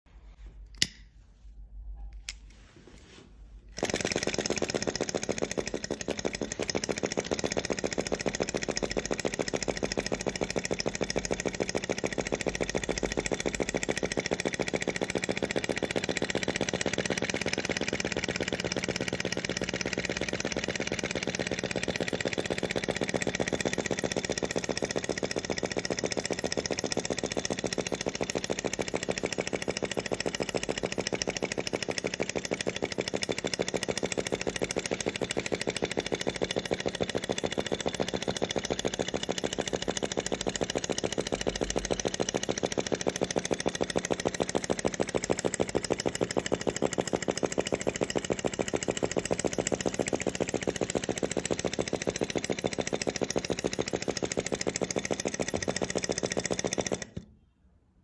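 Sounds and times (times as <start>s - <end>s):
model engine clattering: 3.7s - 57.3s.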